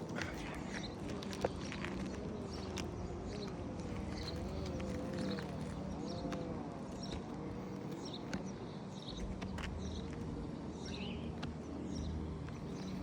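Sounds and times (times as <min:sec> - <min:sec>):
birds chirping: 0:00.0 - 0:13.0
low mechanical hum: 0:00.0 - 0:13.0.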